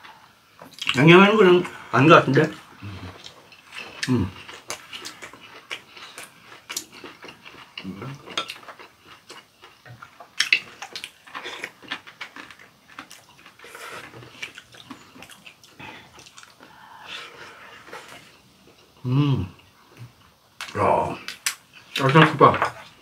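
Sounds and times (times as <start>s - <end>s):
chewing: 2.5s - 22.2s.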